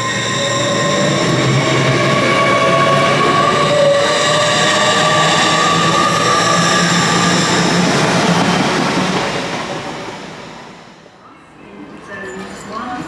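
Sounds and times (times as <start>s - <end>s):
train wheels and brakes squealing: 0.0s - 11.1s
train rumbling: 0.0s - 13.0s.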